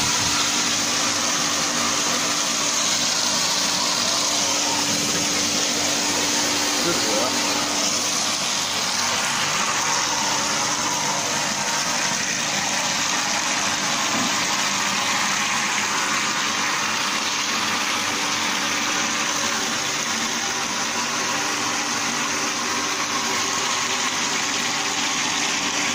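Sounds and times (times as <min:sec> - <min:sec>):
machine motor humming: 0:00.0 - 0:25.9.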